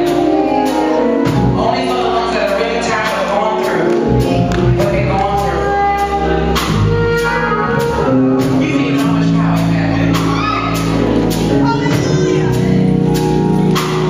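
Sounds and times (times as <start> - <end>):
band with percussion beat: 0.0 - 14.0.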